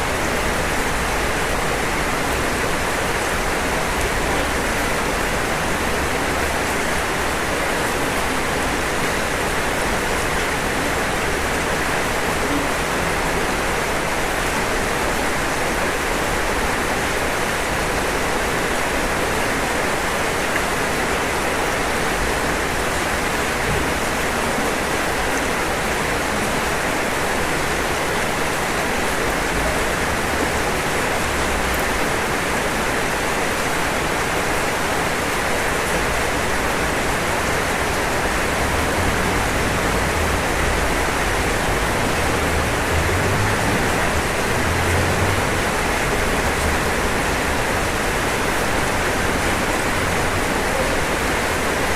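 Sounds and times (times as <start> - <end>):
rain falling on a roof: 0.0 - 51.9.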